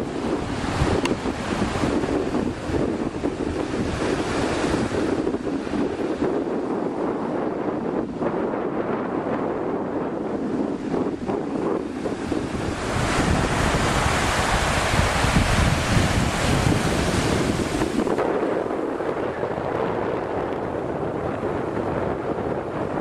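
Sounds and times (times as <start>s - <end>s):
ocean wave breaking: 0.0s - 23.0s
wind noise on microphone: 0.0s - 23.0s.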